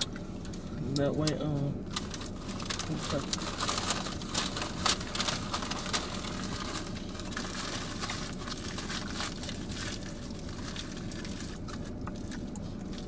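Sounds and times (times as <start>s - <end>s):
low rumble inside car: 0.0s - 13.0s
paper wrapper crinkling: 1.9s - 13.0s.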